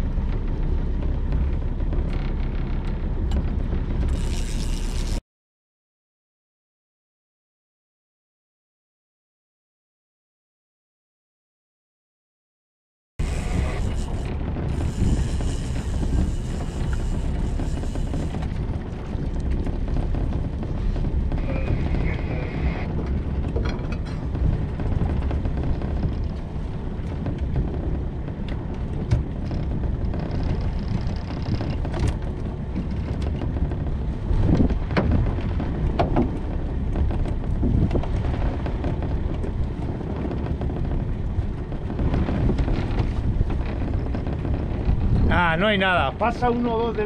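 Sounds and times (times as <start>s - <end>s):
boat engine rumble: 0.0s - 5.2s, 13.2s - 47.0s.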